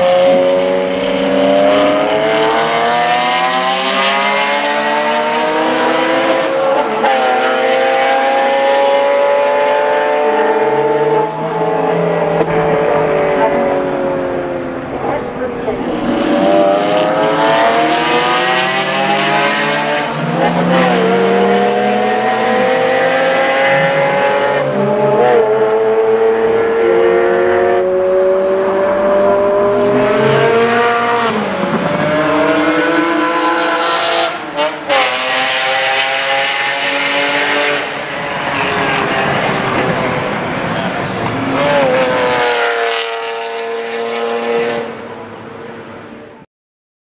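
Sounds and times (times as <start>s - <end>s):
car engine revving hard: 0.0s - 45.4s.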